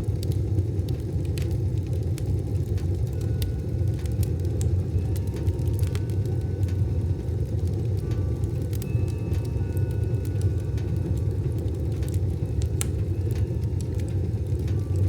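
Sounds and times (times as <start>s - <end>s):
wood stove fire burning: 0.0s - 15.0s
faint steady ringing tones: 2.2s - 15.0s.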